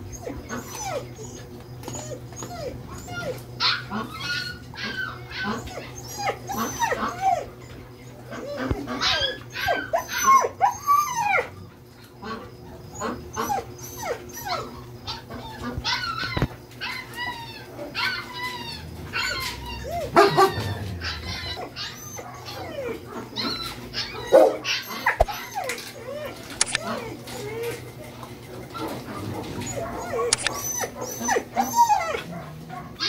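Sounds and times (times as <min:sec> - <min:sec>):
dogs whining yelping and barking: 0:00.0 - 0:33.0.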